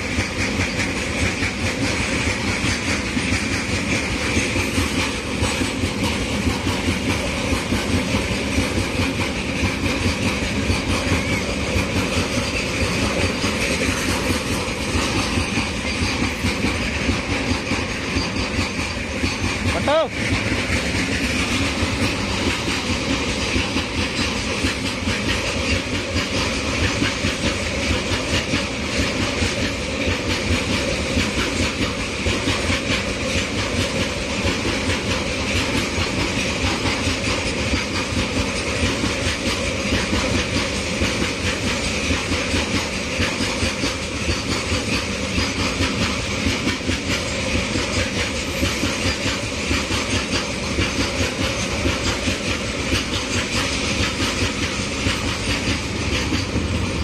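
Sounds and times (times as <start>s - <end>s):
freight train wagons rolling: 0.0s - 57.0s
wheels clattering over rail joints: 0.0s - 57.0s.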